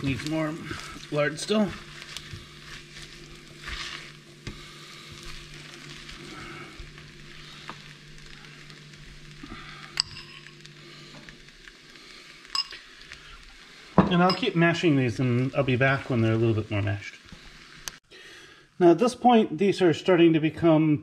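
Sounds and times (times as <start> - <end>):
beans and onions sizzling in a pot: 0.0 - 18.0.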